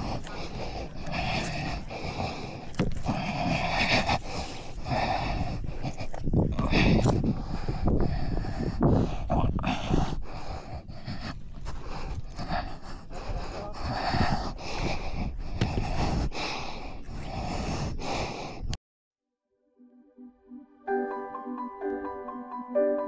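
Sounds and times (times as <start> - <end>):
person breathing heavily: 0.0 - 18.8.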